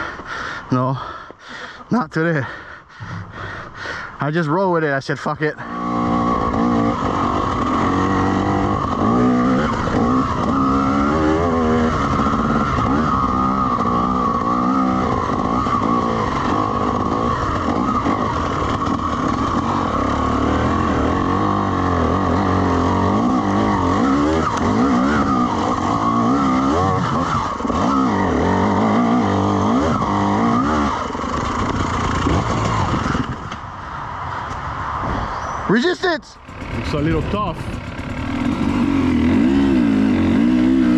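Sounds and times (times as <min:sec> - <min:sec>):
dirt bike engine revving: 0:03.0 - 0:33.6, 0:36.4 - 0:40.9.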